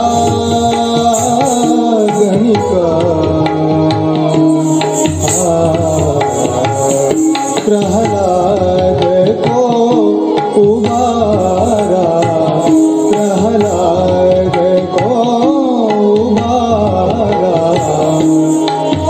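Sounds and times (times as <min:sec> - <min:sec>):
ornamented melodic line: 0:00.0 - 0:19.0
tabla playing rhythm: 0:00.0 - 0:19.0.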